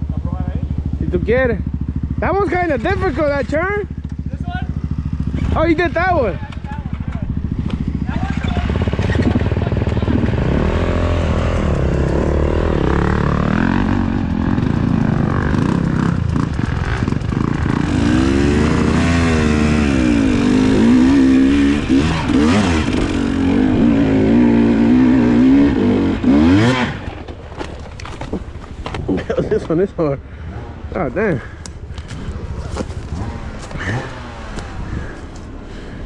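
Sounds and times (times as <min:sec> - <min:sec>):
dirt bike engine revving: 0:00.8 - 0:29.6, 0:30.3 - 0:36.0.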